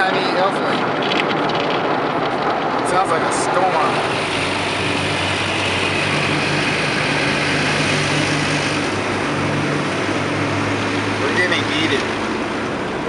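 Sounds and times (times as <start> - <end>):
water spray pelting car: 0.0 - 13.0.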